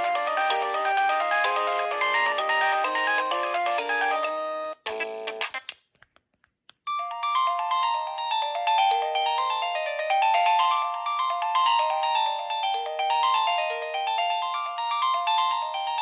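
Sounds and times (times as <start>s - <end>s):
ringtone melody: 0.0s - 5.7s, 6.9s - 16.0s.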